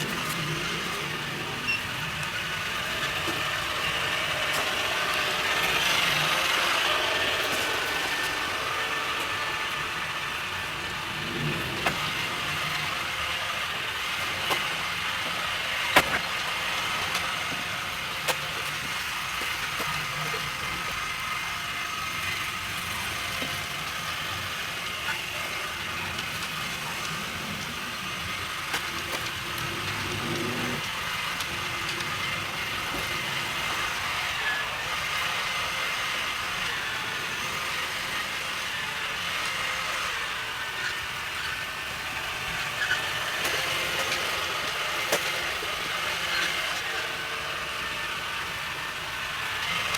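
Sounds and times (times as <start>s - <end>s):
robot vacuum motors whirring: 0.0s - 49.9s.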